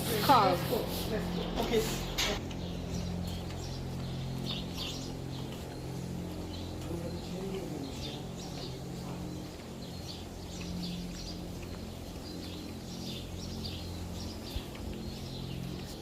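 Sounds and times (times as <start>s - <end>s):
low machine hum: 0.0s - 16.0s
small birds chirping: 0.0s - 16.0s.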